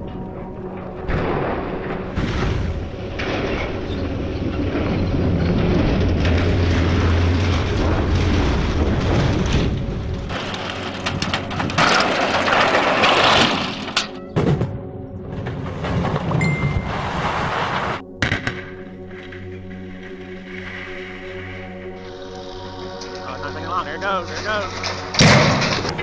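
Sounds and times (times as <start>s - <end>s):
towers crashing to ground: 0.0s - 22.0s, 22.6s - 26.0s.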